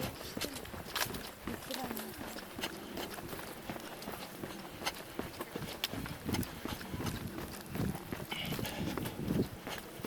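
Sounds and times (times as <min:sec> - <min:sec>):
footsteps on trail: 0:00.0 - 0:10.0.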